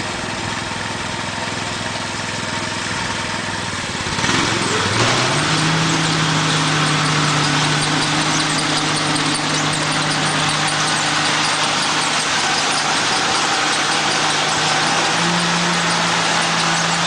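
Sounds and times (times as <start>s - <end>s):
combine engine running: 0.0s - 17.0s.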